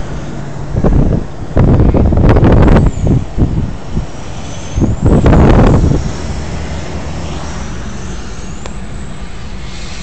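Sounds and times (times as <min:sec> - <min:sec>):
road and wind noise: 0:00.0 - 0:10.0
loud rush of air: 0:00.3 - 0:10.0.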